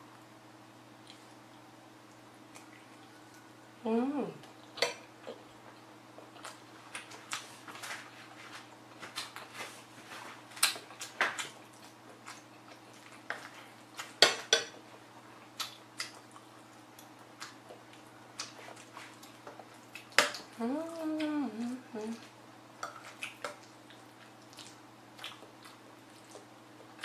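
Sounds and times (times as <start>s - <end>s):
chewing: 1.0s - 3.5s, 4.4s - 14.2s, 14.8s - 21.3s, 22.1s - 27.0s.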